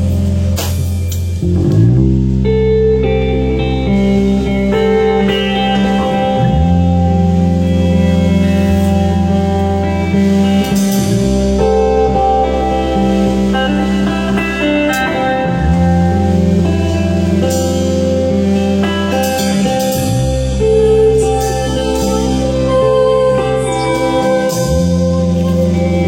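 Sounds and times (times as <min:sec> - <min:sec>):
instrumental music with held bass notes: 0:00.0 - 0:26.0.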